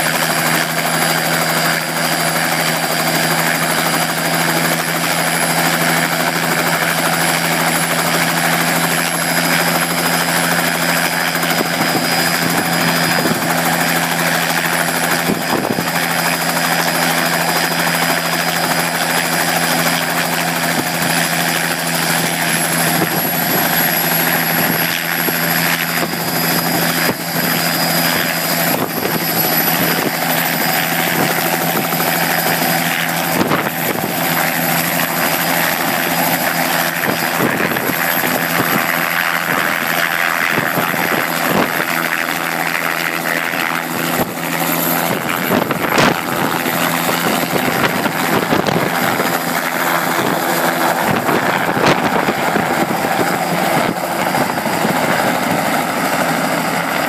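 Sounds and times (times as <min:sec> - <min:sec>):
helicopter rotor thrum: 0:00.0 - 0:57.0
turbine whine: 0:00.0 - 0:57.0.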